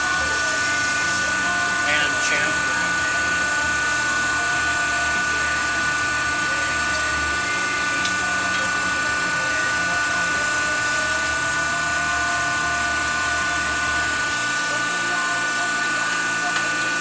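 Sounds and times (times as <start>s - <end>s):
lathe running with high whine: 0.0s - 17.0s.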